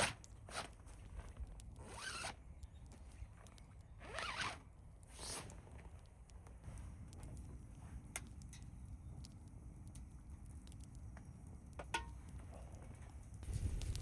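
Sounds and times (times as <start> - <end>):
small clicks and crackles: 0.0 - 14.0
wind rumbling on microphone: 0.8 - 14.0.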